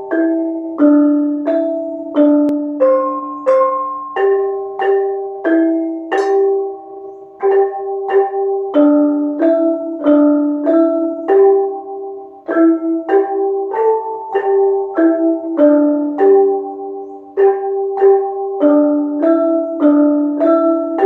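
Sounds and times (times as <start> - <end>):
kettle gongs struck with mallets: 0.0 - 21.0.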